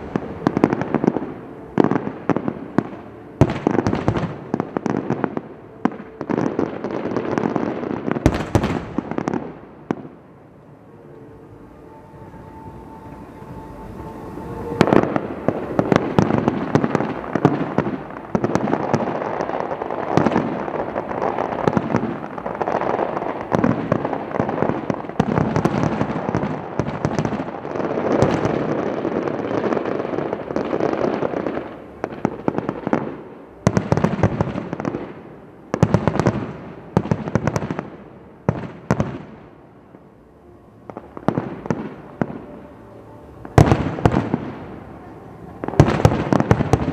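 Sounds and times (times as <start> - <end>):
fireworks booming and crackling: 0.0 - 10.3, 11.9 - 40.1, 40.8 - 46.9.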